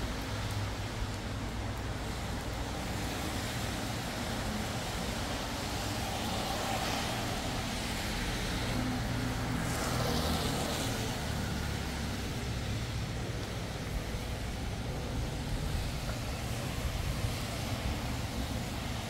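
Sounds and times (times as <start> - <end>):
steady low traffic rumble: 0.0 - 19.0
vehicles passing with tyre hiss: 0.0 - 19.0.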